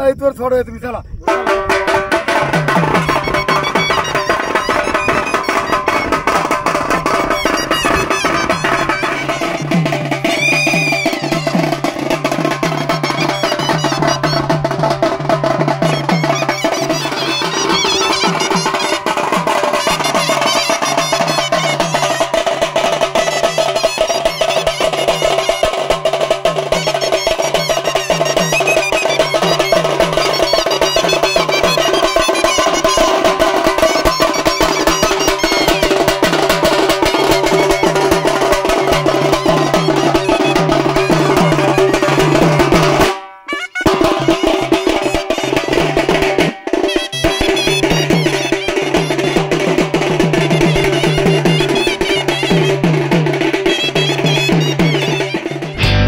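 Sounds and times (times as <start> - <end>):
drums beating rhythm: 1.2 - 56.0
reed pipe wavering melody: 1.2 - 56.0.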